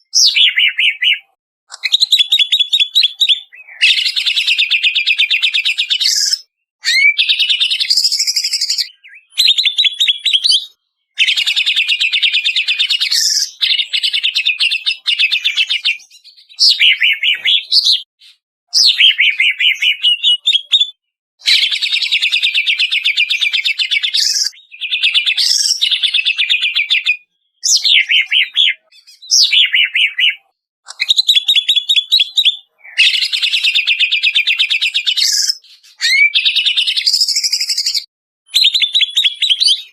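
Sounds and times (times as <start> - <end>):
bird singing rapid phrases: 0.0 - 39.9.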